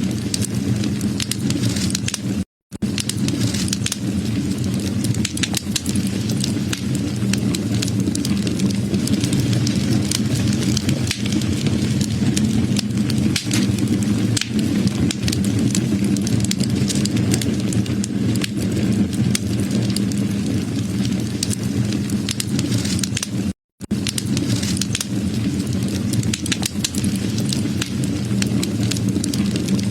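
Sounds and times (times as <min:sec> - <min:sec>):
fire crackling and popping: 0:00.0 - 0:29.9
wood fire rumbling: 0:00.0 - 0:29.9.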